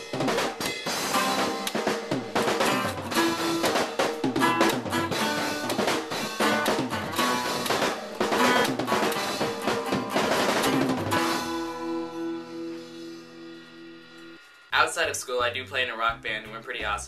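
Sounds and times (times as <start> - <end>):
drum kit music: 0.0 - 17.0
held notes from instruments: 0.0 - 17.0.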